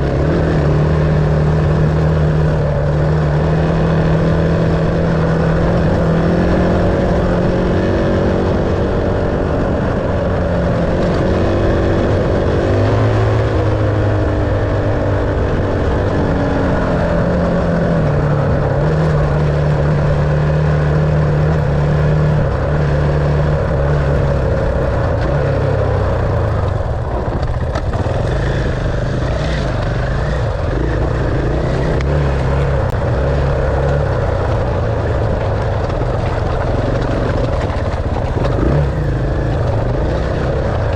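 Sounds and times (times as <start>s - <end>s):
dirt bike engine revving: 0.0s - 35.4s, 36.0s - 40.9s
wind and ground noise: 0.0s - 40.9s.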